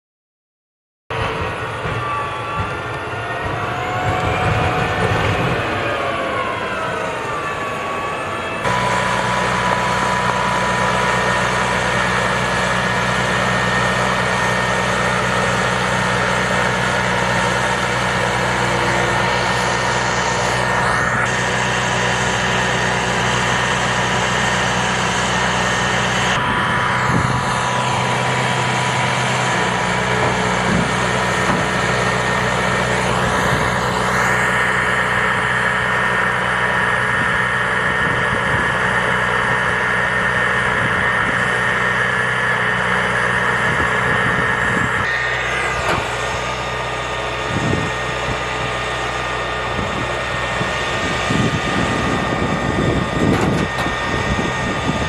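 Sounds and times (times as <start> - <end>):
gas turbine engine running: 1.1 - 55.0
high steady whine: 1.1 - 55.0.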